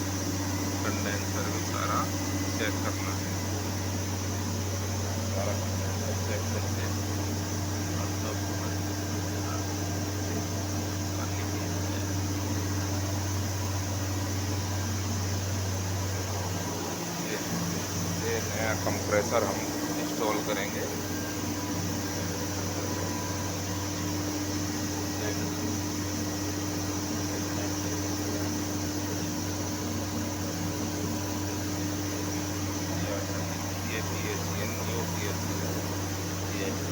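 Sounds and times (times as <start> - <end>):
fan-like hiss: 0.0 - 36.9
machinery humming: 0.0 - 36.9.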